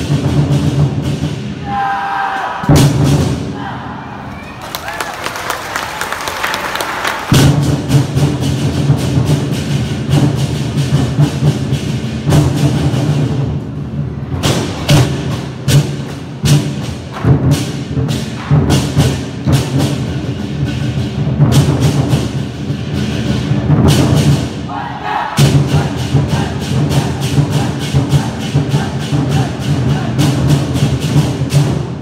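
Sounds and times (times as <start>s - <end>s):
drum ensemble playing: 0.0s - 1.9s, 2.6s - 3.6s, 6.7s - 32.0s.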